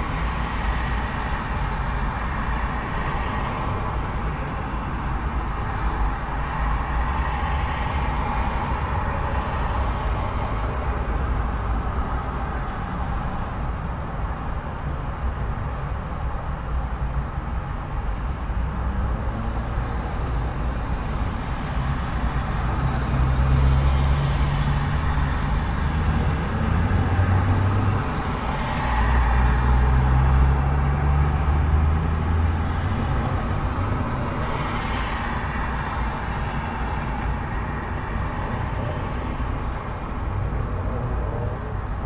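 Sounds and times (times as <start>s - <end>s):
road traffic: 0.0s - 42.0s
vehicles passing: 0.0s - 42.0s.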